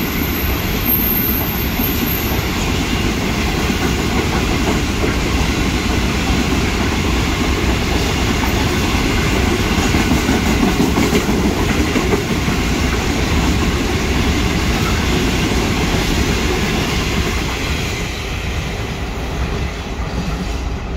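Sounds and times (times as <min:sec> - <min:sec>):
freight train wheels rumbling: 0:00.0 - 0:20.9.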